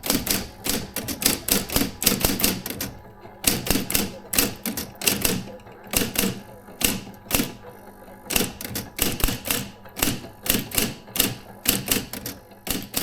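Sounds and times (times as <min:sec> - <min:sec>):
electric typewriter typing: 0:00.0 - 0:13.0.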